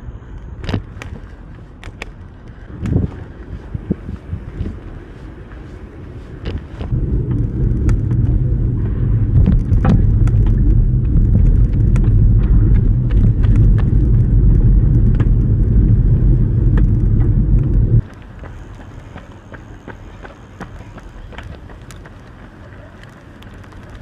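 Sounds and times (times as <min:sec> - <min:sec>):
loud low riding rumble: 0:00.0 - 0:24.0.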